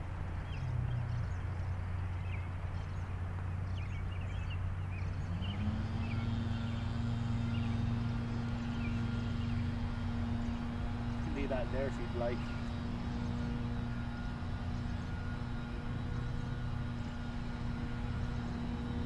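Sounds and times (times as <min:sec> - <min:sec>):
low engine hum: 0:00.0 - 0:19.0
small birds chirping: 0:00.0 - 0:19.0
engine rising in pitch: 0:03.6 - 0:19.0.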